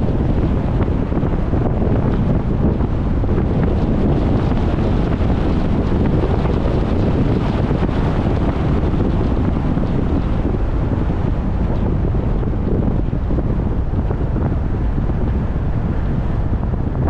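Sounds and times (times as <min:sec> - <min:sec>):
car rumbling on the move: 0:00.0 - 0:17.0
tyre and wind noise: 0:00.0 - 0:17.0.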